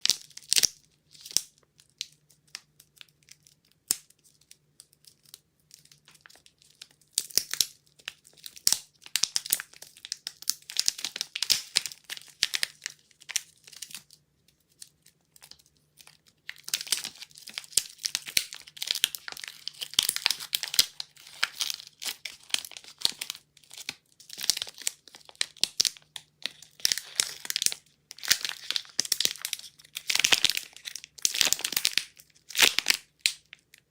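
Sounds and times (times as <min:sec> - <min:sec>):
wrapper tearing and crinkling: 0:02.5 - 0:33.7.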